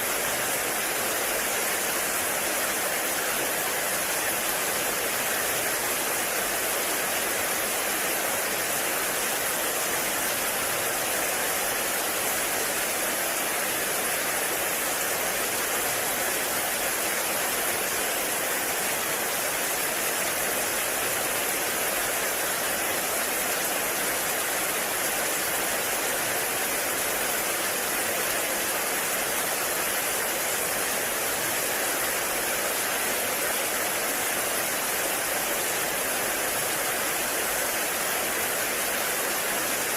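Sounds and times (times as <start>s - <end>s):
heavy rain on forest: 0.0s - 39.9s.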